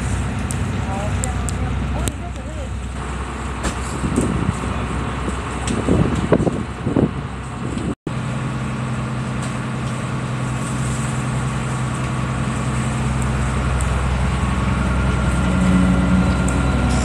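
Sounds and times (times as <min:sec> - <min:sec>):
boat engine humming: 0:00.0 - 0:05.8, 0:06.6 - 0:17.0.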